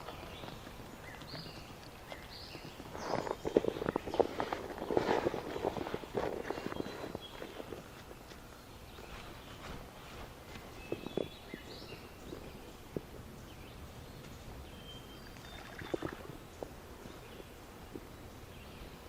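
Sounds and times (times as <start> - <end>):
low background noise: 0.0 - 19.0
small birds chirping: 0.0 - 19.0.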